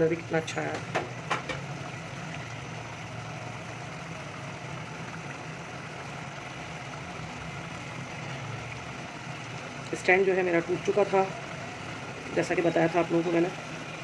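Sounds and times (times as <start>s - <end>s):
gravy simmering hiss: 0.0s - 14.0s.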